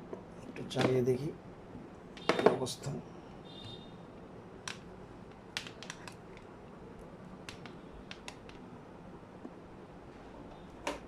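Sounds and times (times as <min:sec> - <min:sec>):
faint steady background hiss: 0:00.0 - 0:11.0.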